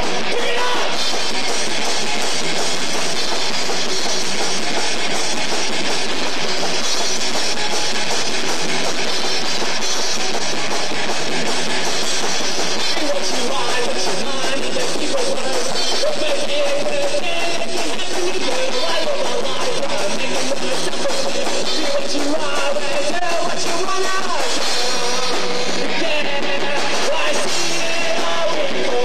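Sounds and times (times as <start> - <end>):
rock band playing loudly: 0.0 - 29.0.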